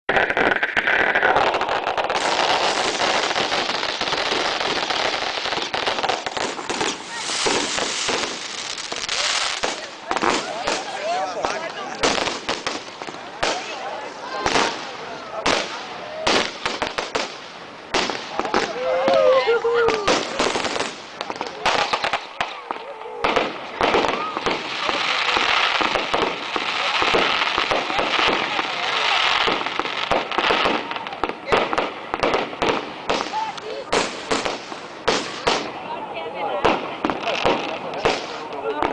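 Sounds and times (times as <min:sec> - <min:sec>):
bonfire crackling and popping: 0:00.1 - 0:38.9.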